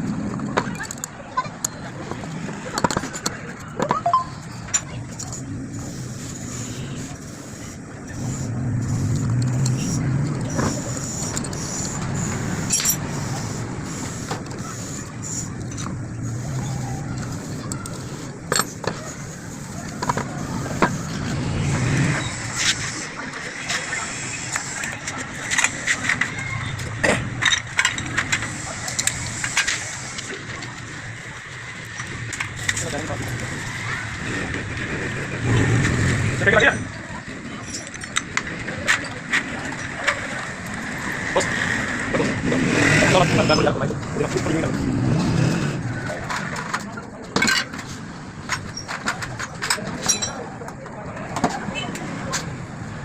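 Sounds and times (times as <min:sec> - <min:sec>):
steady background noise: 0:00.0 - 0:53.0.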